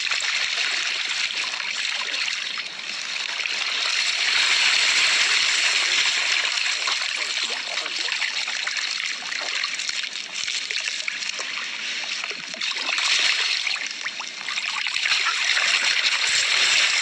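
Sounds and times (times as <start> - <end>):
running water trickling and splashing: 0.0 - 17.0.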